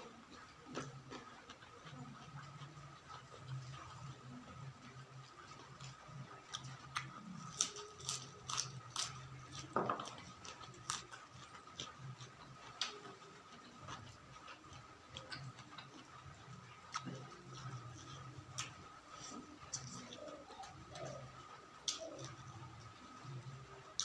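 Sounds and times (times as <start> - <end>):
person chewing crunchy food: 0.0 - 23.4
faint steady hum: 0.0 - 24.0.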